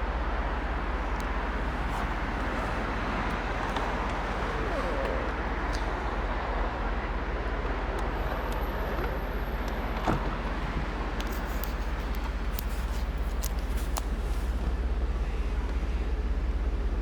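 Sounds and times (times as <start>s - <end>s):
car running noise: 0.0s - 17.0s.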